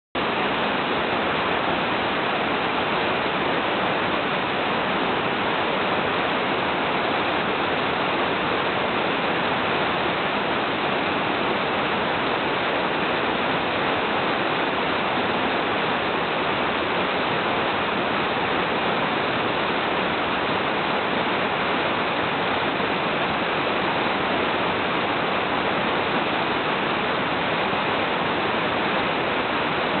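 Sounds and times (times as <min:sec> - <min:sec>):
waterfall rushing: 0:00.2 - 0:30.0.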